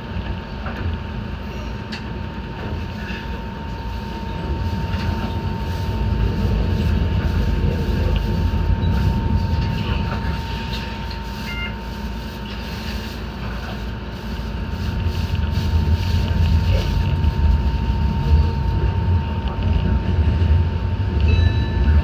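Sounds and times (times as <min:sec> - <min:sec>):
electric train rumbling on rails: 0:00.0 - 0:22.0
thin steady whine: 0:00.0 - 0:22.0.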